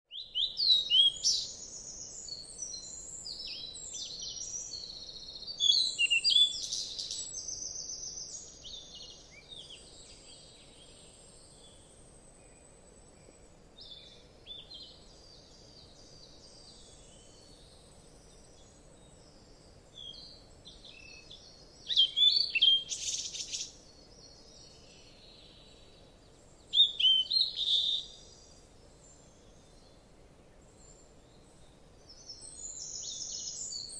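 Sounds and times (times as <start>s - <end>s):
birds chirping and singing: 0.1s - 11.8s, 13.8s - 29.9s, 30.8s - 33.9s.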